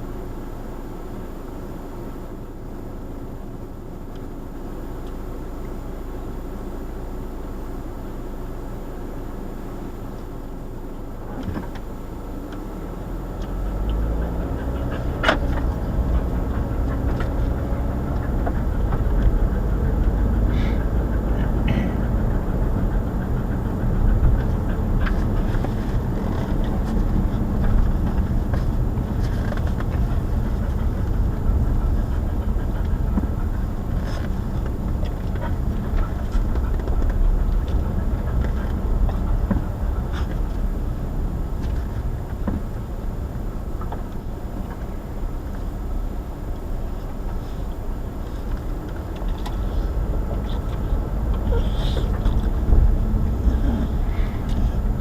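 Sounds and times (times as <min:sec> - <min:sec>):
tyres and engine rumble: 0:00.0 - 0:55.0.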